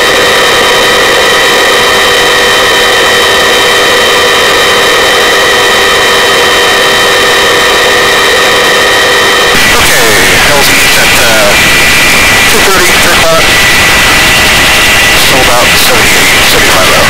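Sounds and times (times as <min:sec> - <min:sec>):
helicopter hovering: 0:00.0 - 0:17.0
high turbine whine: 0:00.0 - 0:17.0.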